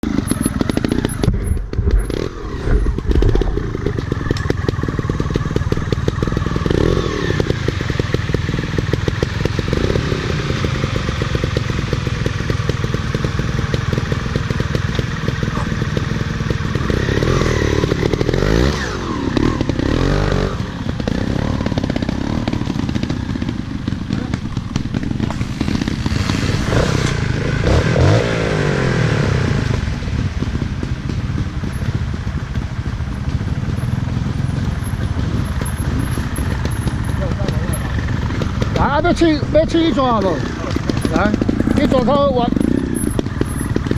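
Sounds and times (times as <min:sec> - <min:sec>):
rattling and clatter: 0:00.0 - 0:27.9, 0:30.1 - 0:43.9
motorcycle engine revving: 0:00.0 - 0:43.9.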